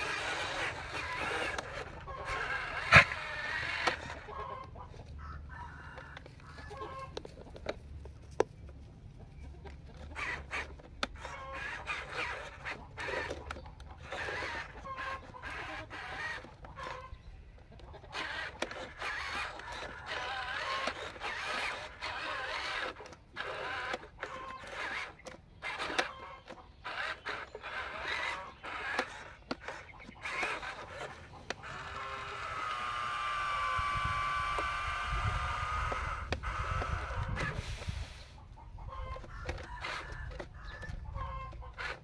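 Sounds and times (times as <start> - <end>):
toy truck electric motor whirring: 0.0 - 8.8, 9.5 - 42.0
chickens clucking: 0.0 - 42.0.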